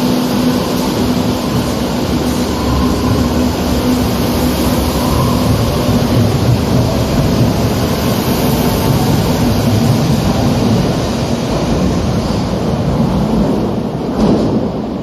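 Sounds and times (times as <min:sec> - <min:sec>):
underground train running: 0:00.0 - 0:15.0.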